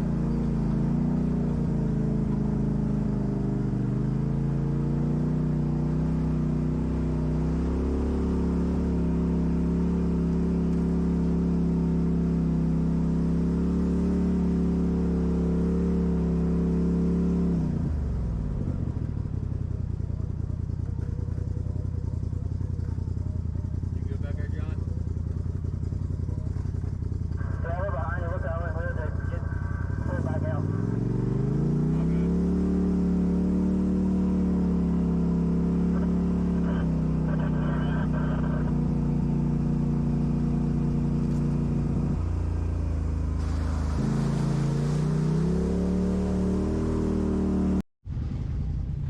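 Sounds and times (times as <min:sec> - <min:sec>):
off-road vehicle engine running: 0:00.0 - 0:49.0.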